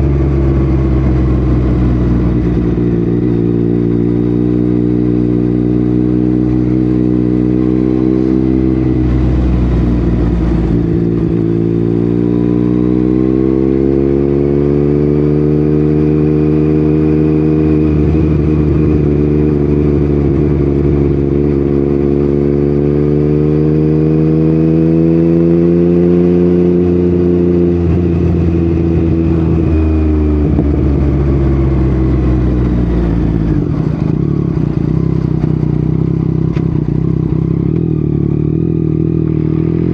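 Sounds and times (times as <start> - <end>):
motorcycle engine on the move: 0.0 - 39.9.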